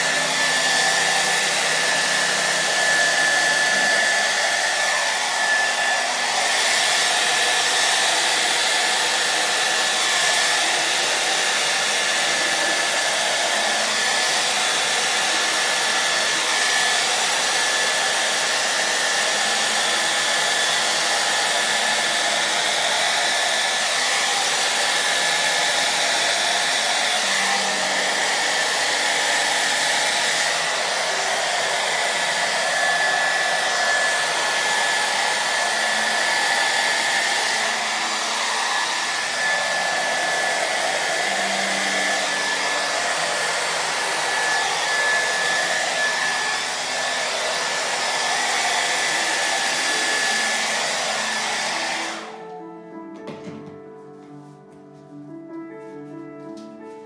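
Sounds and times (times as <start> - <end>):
hair dryer running: 0.0 - 54.4.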